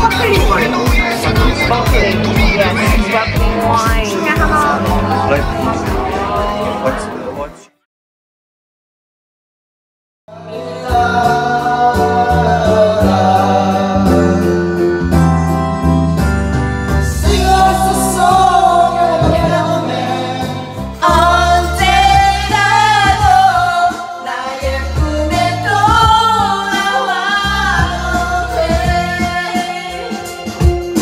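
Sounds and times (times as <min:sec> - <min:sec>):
people singing into microphones: 0:00.0 - 0:07.6, 0:10.3 - 0:15.2, 0:17.1 - 0:31.0
pop backing track: 0:00.0 - 0:07.7, 0:10.3 - 0:31.0.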